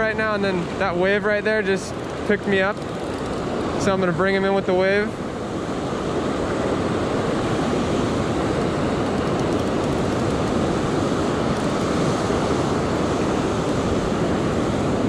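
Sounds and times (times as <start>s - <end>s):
small waves washing on sand: 0.0s - 15.0s
wind buffeting the microphone: 0.0s - 15.0s.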